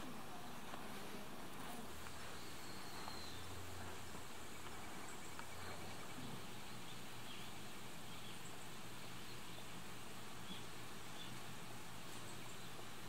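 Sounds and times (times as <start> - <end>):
faint low hum: 0.0 - 13.0
steady hiss: 0.0 - 13.0.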